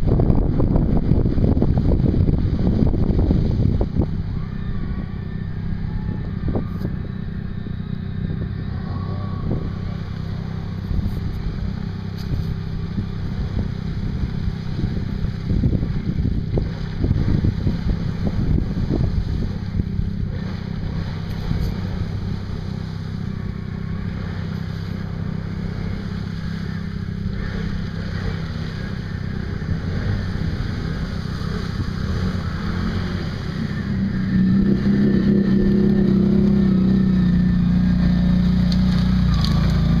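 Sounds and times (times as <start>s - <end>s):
atv engine running under load: 0.0s - 40.0s
water churning: 0.0s - 40.0s.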